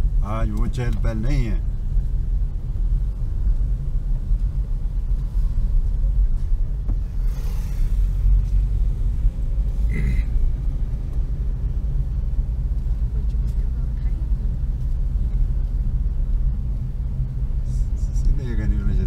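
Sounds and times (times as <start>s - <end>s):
car engine and tyres rumble: 0.0s - 19.0s.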